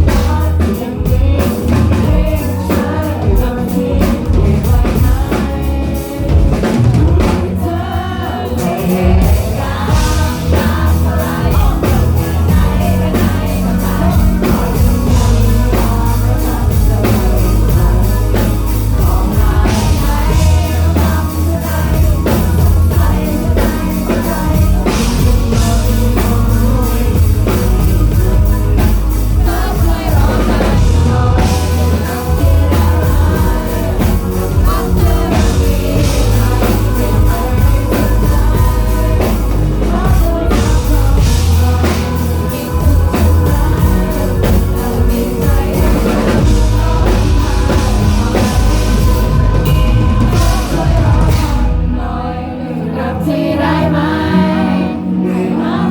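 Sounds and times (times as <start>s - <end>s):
live rock band with singer: 0.0s - 55.9s.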